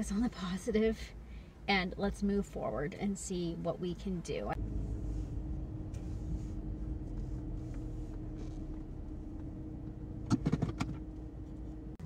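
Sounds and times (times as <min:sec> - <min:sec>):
car cabin hum: 0:01.8 - 0:12.0.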